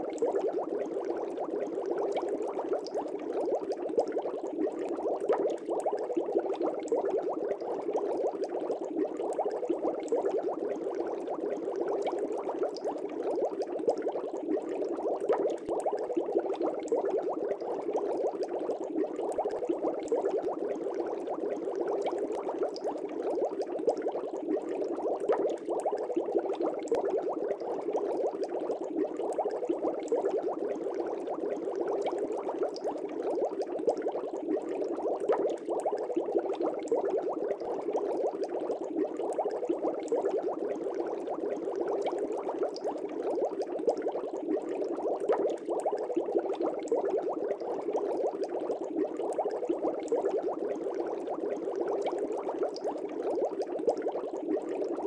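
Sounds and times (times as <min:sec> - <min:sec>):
air bubbling in aquarium water: 0:00.0 - 0:55.0.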